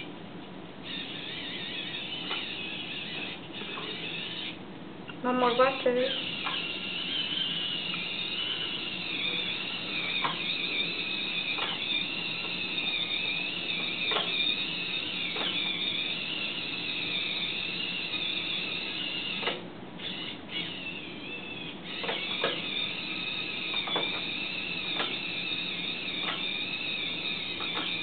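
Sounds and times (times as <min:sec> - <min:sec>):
robot car motors whining: 0:00.8 - 0:04.6, 0:05.3 - 0:28.0.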